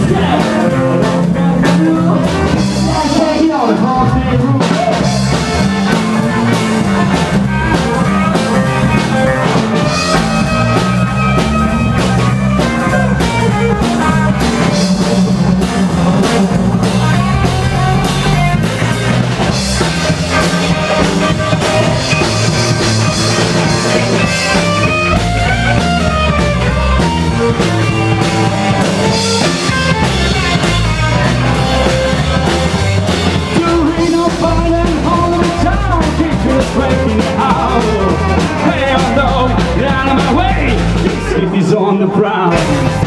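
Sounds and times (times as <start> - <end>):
drum kit beat: 0.0 - 43.0
live rockabilly band playing: 0.0 - 43.0.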